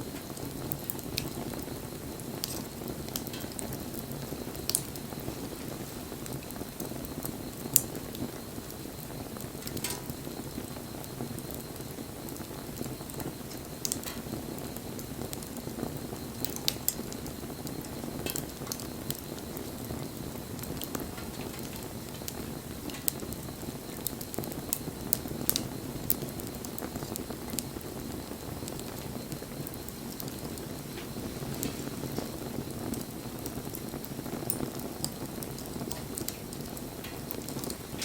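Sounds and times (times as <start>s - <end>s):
bonfire crackles and pops: 0.0s - 38.0s
low rush of flame: 0.0s - 38.0s.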